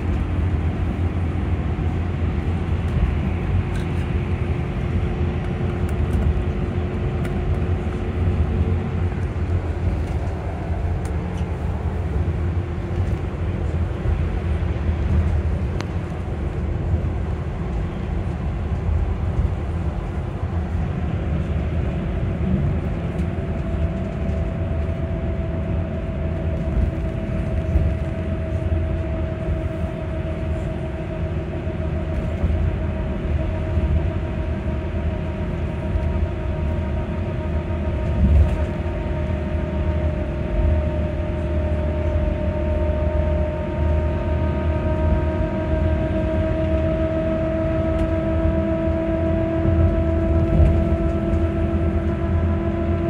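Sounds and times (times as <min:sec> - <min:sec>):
bus low rumble: 0:00.0 - 0:53.0.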